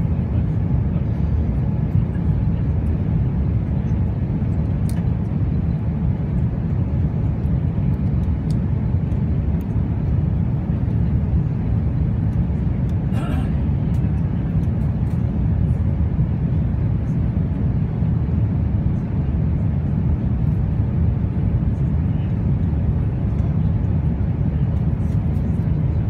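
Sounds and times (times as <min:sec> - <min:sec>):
jet cabin engine rumble: 0:00.0 - 0:26.0.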